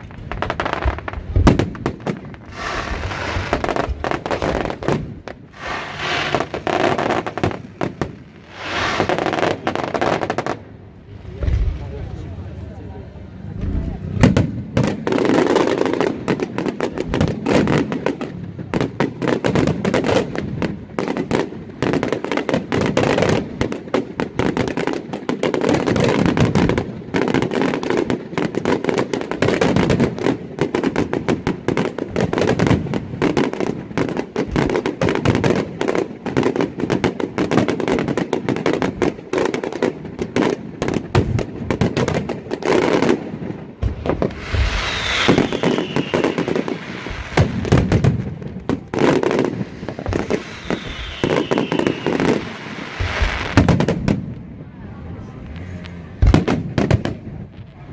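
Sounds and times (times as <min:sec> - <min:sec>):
fireworks banging and crackling: 0:00.0 - 0:57.9.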